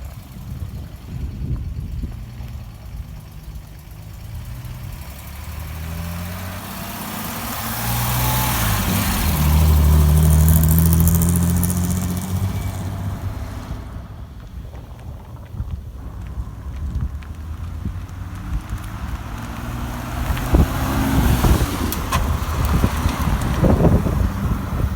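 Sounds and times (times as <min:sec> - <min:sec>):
car engine passing by: 0:00.4 - 0:14.4, 0:16.0 - 0:24.9.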